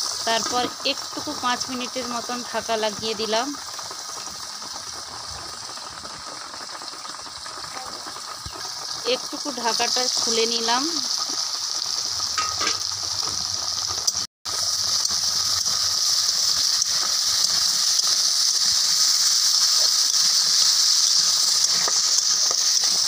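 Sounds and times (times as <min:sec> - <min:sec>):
mango sizzling in oil: 0:00.0 - 0:23.0.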